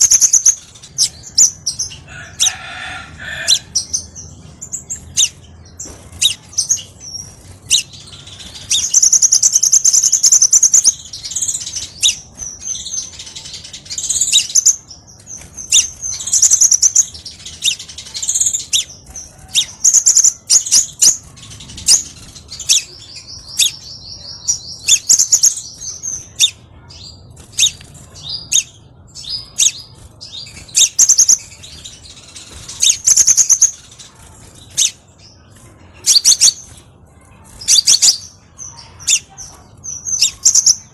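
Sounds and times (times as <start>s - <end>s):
bird trilling and chipping: 0.0s - 40.9s.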